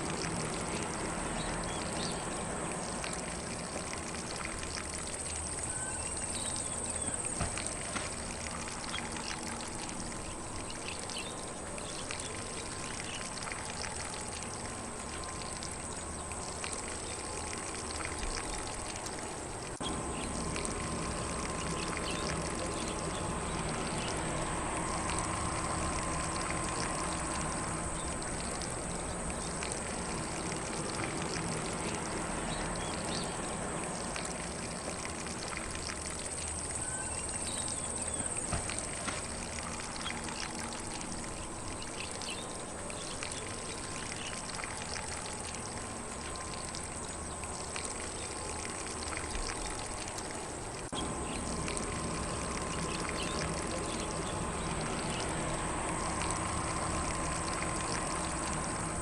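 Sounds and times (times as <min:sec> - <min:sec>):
lawn sprinkler spraying water: 0:00.0 - 0:59.0.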